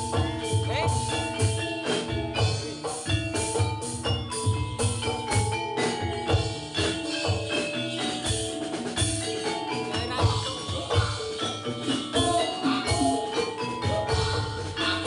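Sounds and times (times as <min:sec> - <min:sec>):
steady low drum beat: 0:00.0 - 0:13.2
metallophones ringing: 0:00.0 - 0:15.0.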